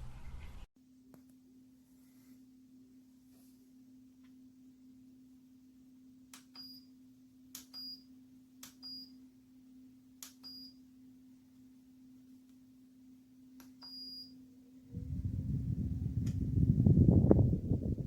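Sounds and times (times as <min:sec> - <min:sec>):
faint steady hum: 0:00.8 - 0:18.0.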